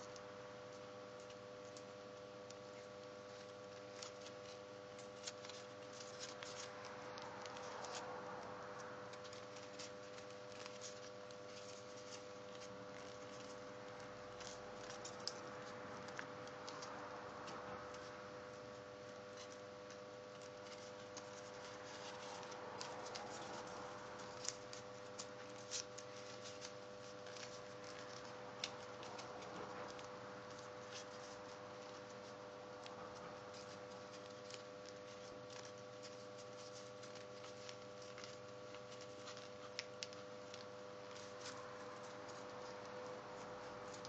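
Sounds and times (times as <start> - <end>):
paper rustling and crackling: 0.0 - 44.0.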